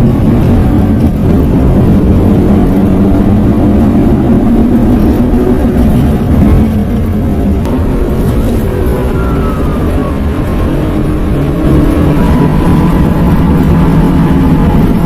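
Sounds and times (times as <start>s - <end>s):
car driving: 0.0s - 15.0s
low drone of wheel bearing: 0.0s - 15.0s.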